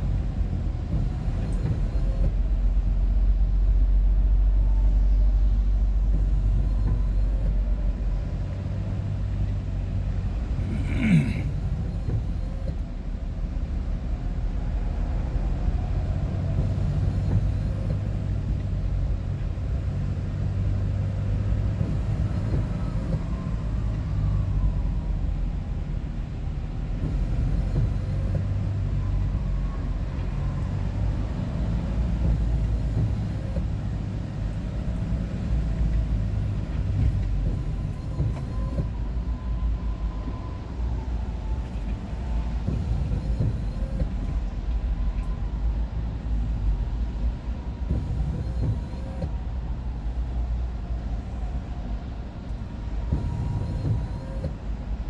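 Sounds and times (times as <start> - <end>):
vehicle road and engine rumble: 0.0 - 55.0.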